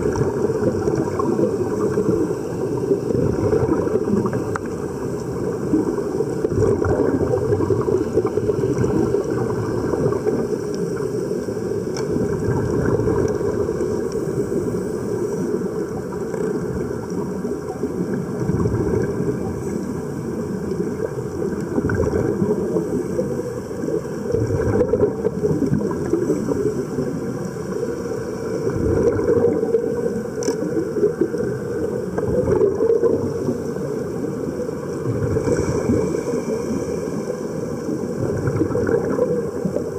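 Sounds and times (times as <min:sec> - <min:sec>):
air bubbling from helmets: 0:00.0 - 0:14.7, 0:15.8 - 0:39.9
muffled underwater rumble: 0:00.0 - 0:39.9.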